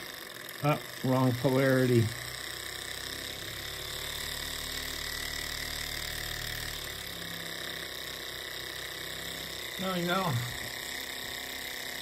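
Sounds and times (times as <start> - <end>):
stirling engine mechanical hum: 0.0 - 12.0.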